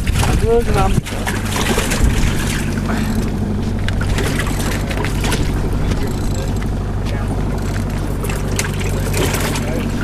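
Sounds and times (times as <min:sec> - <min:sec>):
boat motor humming: 0:00.0 - 0:10.0
water noise: 0:00.0 - 0:10.0
wind: 0:00.0 - 0:10.0.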